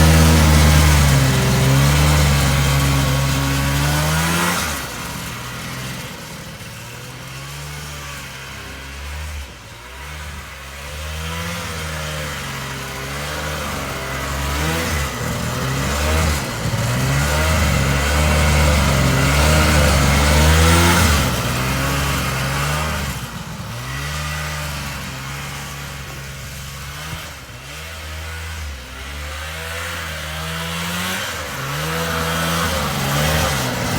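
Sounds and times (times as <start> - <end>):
snowmobile two-stroke engine revving: 0.0 - 33.9.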